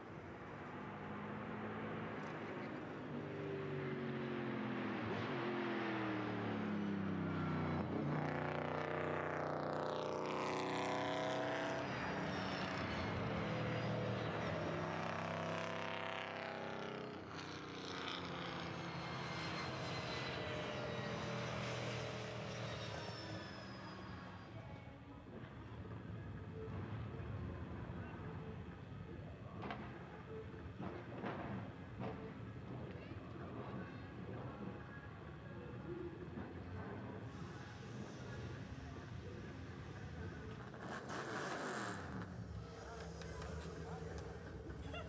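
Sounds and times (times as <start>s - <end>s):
race car engines revving: 0.1s - 24.6s, 29.6s - 45.0s.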